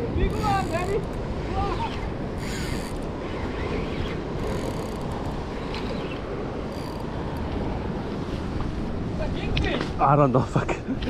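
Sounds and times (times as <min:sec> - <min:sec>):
ocean surf against rocks: 0:00.0 - 0:11.0
wind buffeting microphone: 0:00.0 - 0:11.0.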